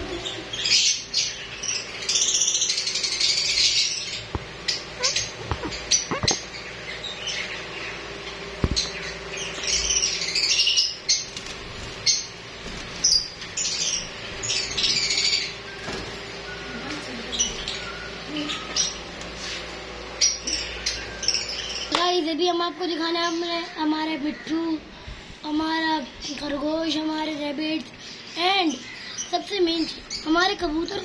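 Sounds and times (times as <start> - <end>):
lovebirds chirping: 0.0 - 31.0.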